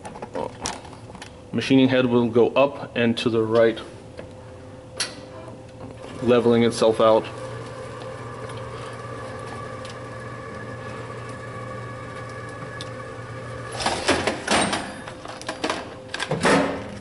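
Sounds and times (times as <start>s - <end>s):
machine humming steadily: 0.0s - 17.0s.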